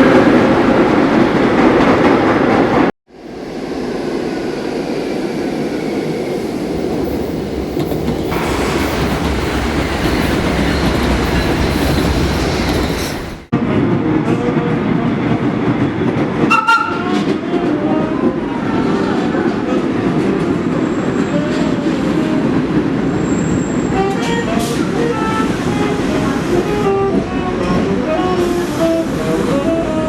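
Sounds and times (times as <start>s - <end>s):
subway car rumbling: 0.0s - 30.0s.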